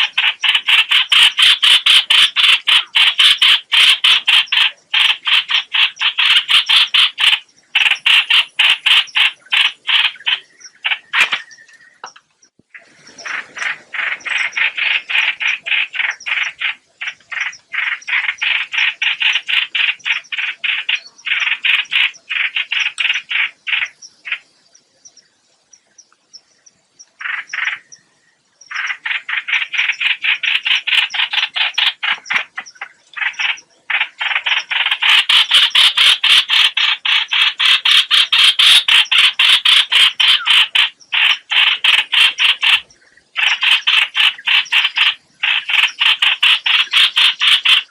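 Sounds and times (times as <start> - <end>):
harsh croaking bird call: 0.0 - 24.5, 27.1 - 28.0, 28.6 - 47.9.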